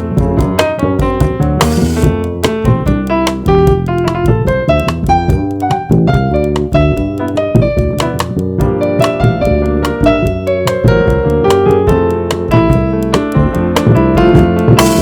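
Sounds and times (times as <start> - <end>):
bass: 0.0 - 15.0
keyboard playing jazz: 0.0 - 15.0.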